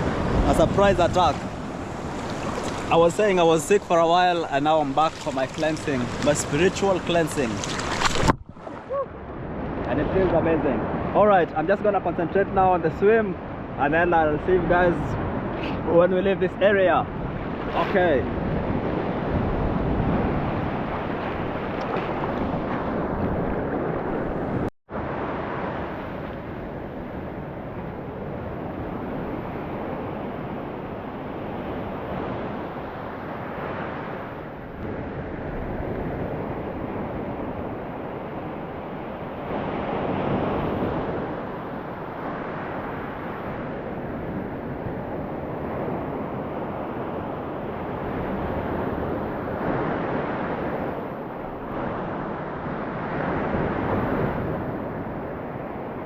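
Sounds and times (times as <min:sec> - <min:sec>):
wind buffeting microphone: 0:00.0 - 0:11.8, 0:12.7 - 0:56.0
ocean waves breaking: 0:00.0 - 0:13.9, 0:14.5 - 0:56.0.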